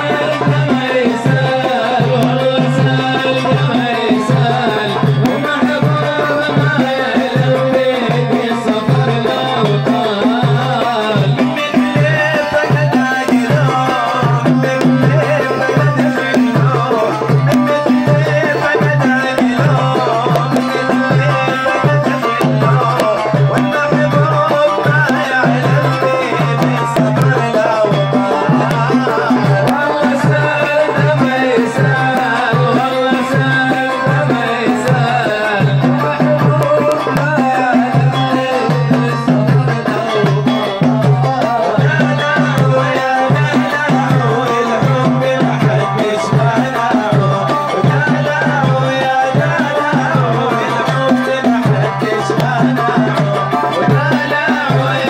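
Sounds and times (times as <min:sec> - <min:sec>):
fast hand-drum rhythm: 0:00.0 - 0:55.0.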